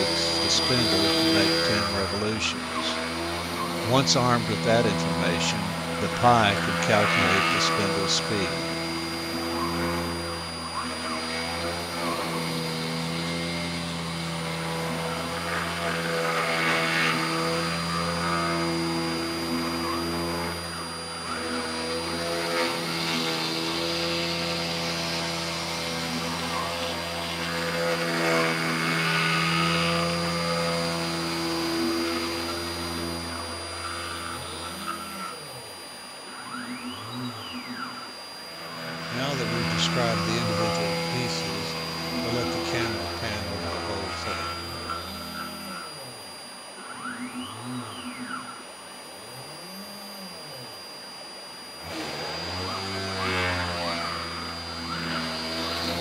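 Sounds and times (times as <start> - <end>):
machine whine: 0.0 - 56.0
spindle motor hum with hiss: 0.0 - 56.0.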